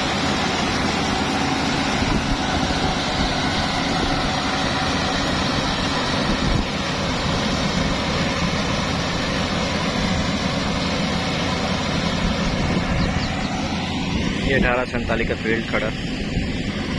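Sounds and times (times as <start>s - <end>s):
combine harvester engine drone: 0.0s - 16.9s.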